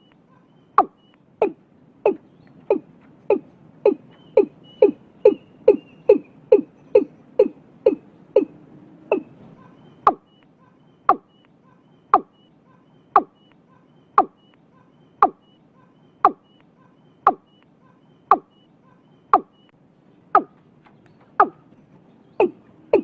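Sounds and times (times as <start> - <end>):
watercock calling: 0.0 - 19.7, 20.4 - 20.6.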